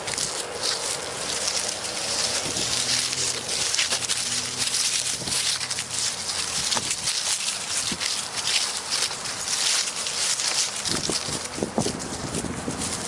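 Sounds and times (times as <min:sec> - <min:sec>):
footsteps on dry leaves: 0:00.0 - 0:13.0.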